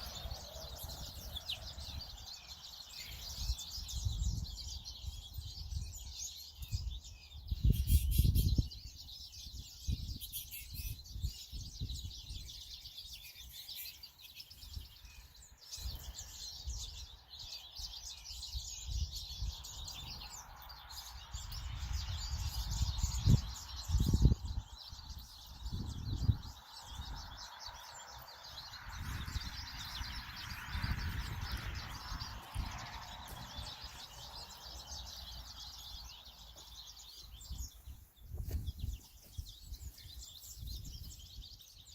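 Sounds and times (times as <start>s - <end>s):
wind buffeting microphone: 0.0s - 13.6s, 14.6s - 41.9s
songbirds chirping and singing: 0.0s - 41.9s.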